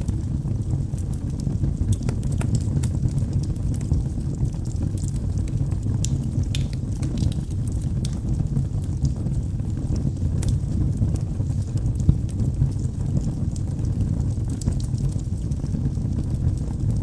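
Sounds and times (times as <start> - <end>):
fire crackles and pops: 0.0 - 17.0
low rumble of fire flames: 0.0 - 17.0.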